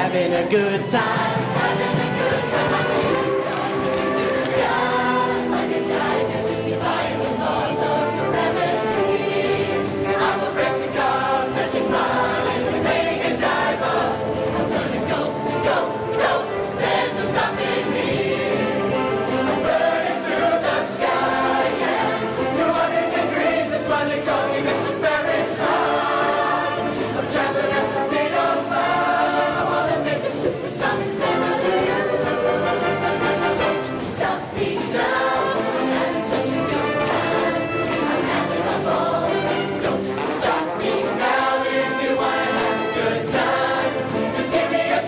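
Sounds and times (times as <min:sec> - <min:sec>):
choir singing in harmony: 0:00.0 - 0:45.0
musical accompaniment: 0:00.0 - 0:45.0.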